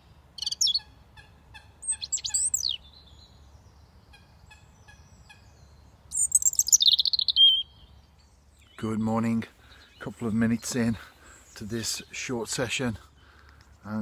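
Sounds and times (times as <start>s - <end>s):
robin singing: 0.0s - 14.0s.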